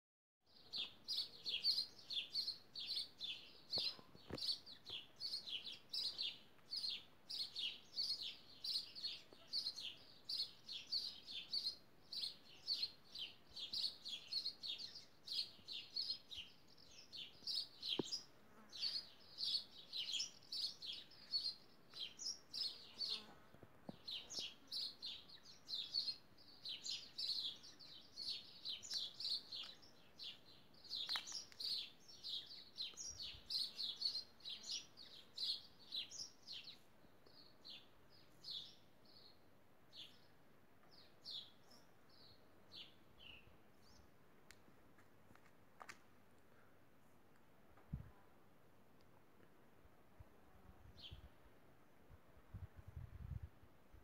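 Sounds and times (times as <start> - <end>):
small bird chirping: 0.5 - 44.2.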